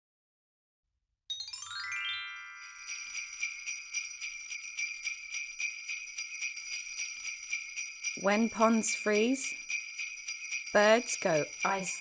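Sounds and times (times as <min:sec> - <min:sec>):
rising chime tones: 0:01.3 - 0:12.0
sleigh bells shaken: 0:02.2 - 0:12.0.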